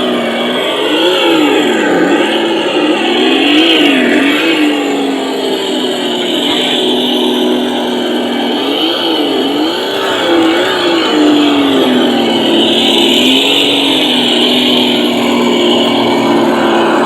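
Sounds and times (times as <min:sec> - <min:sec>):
simulated rc car engine: 0:00.0 - 0:17.0.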